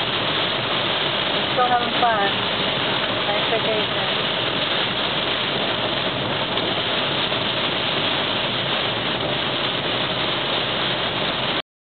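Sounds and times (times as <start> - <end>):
heavy rain on a moving car: 0.0 - 11.6
tyres on wet road: 0.0 - 11.6.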